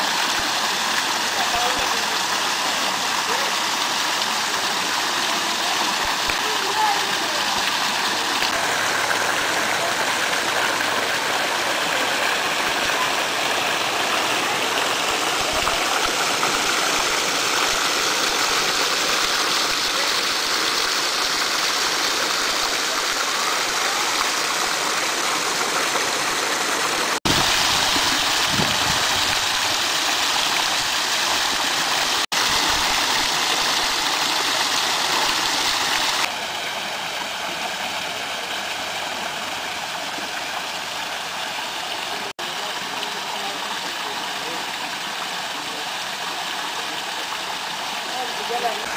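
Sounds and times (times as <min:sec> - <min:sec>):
water pouring down waterfall: 0:00.0 - 0:48.9.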